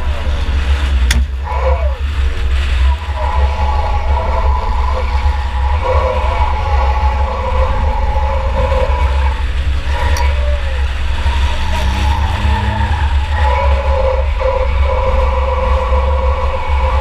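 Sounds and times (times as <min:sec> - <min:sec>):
car engine running hard: 0:00.0 - 0:17.0
tyres skidding: 0:00.0 - 0:17.0.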